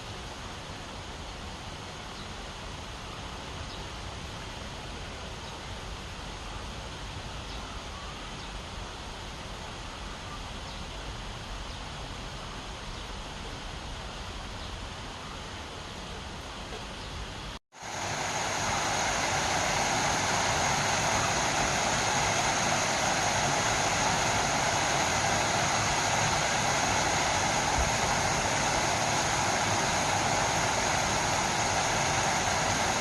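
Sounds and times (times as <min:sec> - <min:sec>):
rustling hiss: 0:00.0 - 0:33.0.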